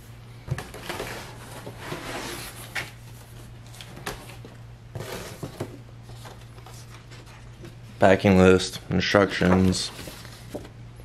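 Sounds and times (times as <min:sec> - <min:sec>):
cardboard and paper rustling: 0:00.6 - 0:07.8, 0:09.1 - 0:10.8.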